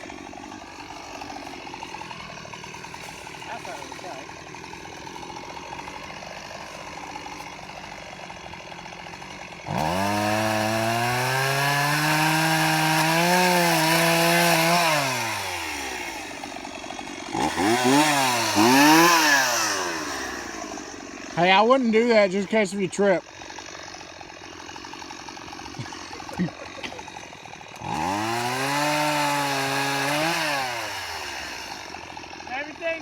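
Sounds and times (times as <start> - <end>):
chainsaw idling and revving: 0.0 - 33.0.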